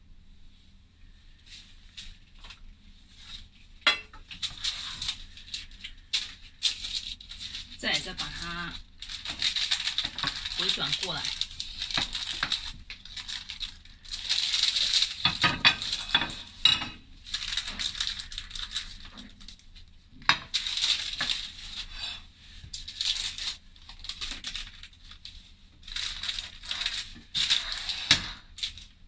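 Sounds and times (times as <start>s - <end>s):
baking paper rustling and crinkling: 0.5s - 29.0s.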